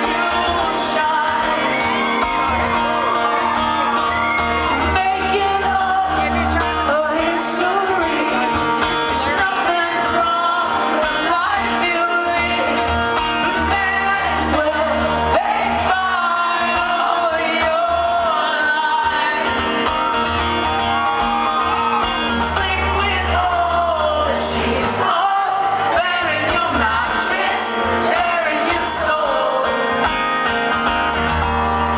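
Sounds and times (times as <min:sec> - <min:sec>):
man singing: 0:00.0 - 0:02.2, 0:04.6 - 0:20.2, 0:21.4 - 0:30.2
acoustic guitar: 0:00.0 - 0:31.9.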